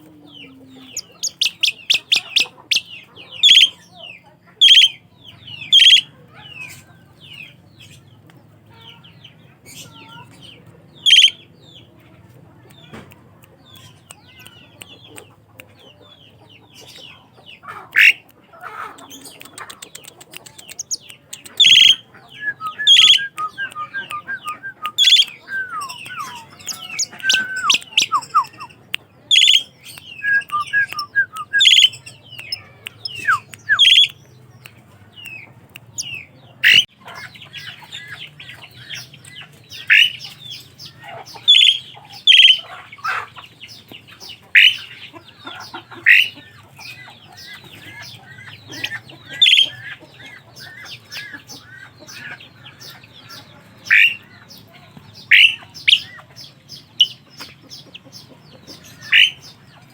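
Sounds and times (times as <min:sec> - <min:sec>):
starlings chirping and whistling: 0:00.0 - 0:08.0, 0:09.7 - 0:11.8, 0:19.1 - 0:59.9.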